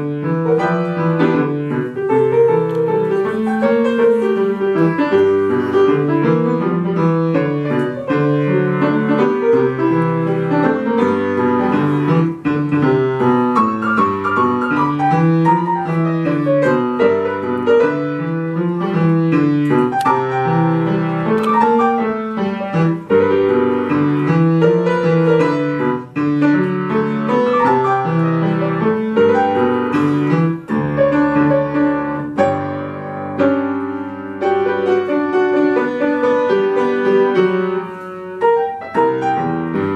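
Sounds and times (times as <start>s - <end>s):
lively upright piano piece: 0.0s - 39.9s.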